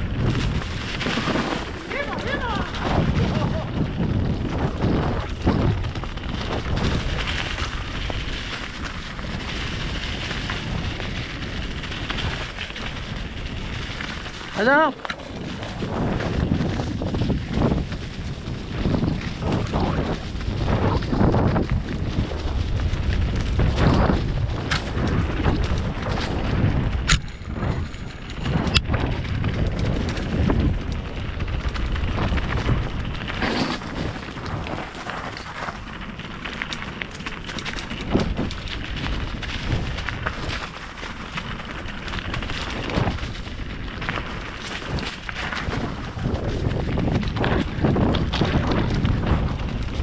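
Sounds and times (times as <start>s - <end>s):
bike rattling over trail: 0.0s - 50.0s
wind on microphone: 0.0s - 50.0s.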